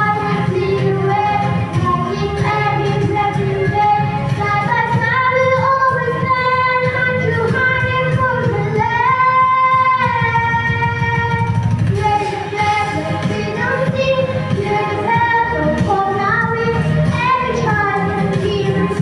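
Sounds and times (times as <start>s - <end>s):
children singing: 0.0s - 19.0s
instrumental accompaniment: 0.0s - 19.0s.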